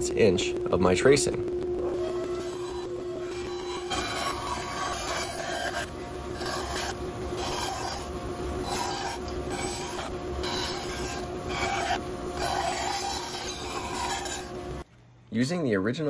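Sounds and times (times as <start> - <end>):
bandsaw cutting wood: 1.9 - 14.8.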